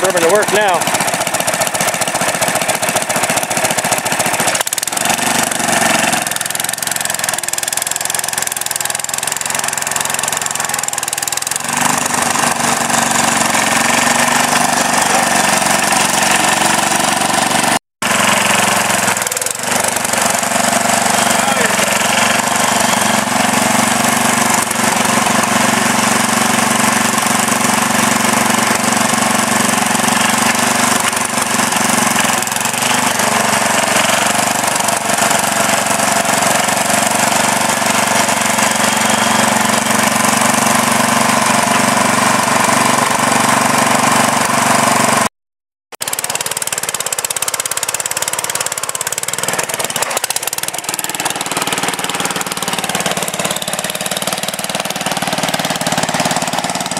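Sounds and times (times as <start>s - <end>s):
garden tractor engine running: 0.0s - 45.3s, 46.0s - 56.9s.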